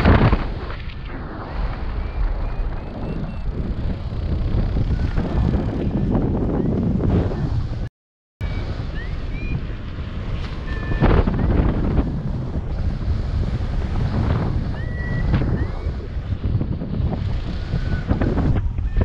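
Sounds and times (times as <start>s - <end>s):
wind roar over microphone: 0.0s - 19.0s.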